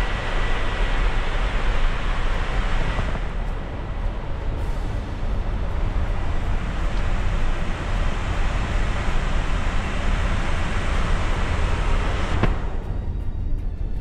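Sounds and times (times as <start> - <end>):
aircraft cockpit rushing noise: 0.0 - 13.2.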